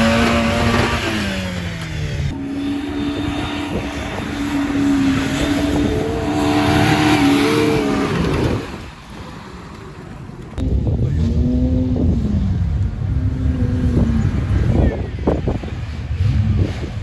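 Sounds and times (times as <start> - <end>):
off-road vehicle motor droning: 0.0 - 17.0.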